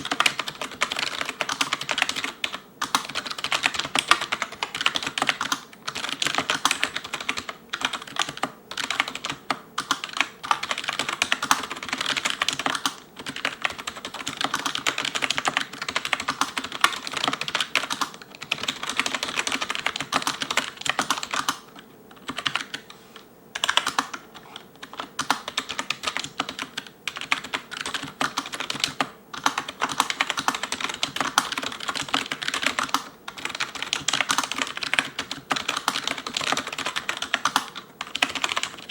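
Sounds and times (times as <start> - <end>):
fast typing on keyboard: 0.0 - 22.9, 23.6 - 38.9.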